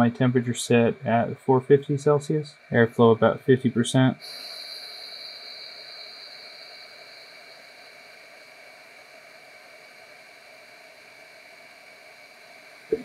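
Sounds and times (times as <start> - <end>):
hot air blower hissing: 2.1 - 13.0.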